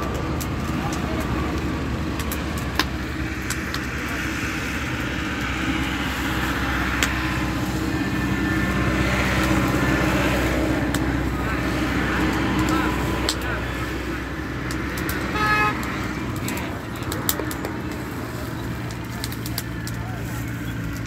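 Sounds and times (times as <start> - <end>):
boiling juice bubbling: 0.0 - 21.0
low engine-like hum: 0.0 - 21.0
sharp crackles: 0.0 - 21.0.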